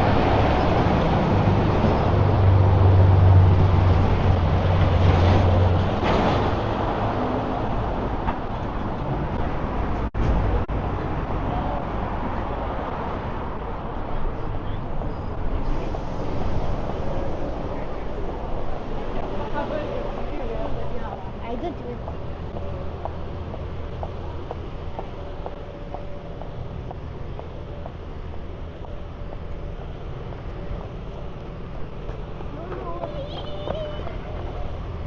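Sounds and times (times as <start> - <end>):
passing traffic: 0.0 - 35.0.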